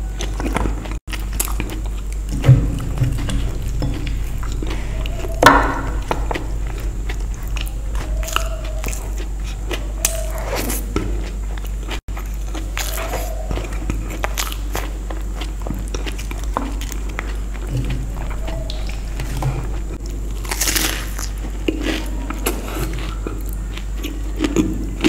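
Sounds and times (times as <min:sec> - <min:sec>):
chewing with wet mouth clicks: 0:00.2 - 0:25.0.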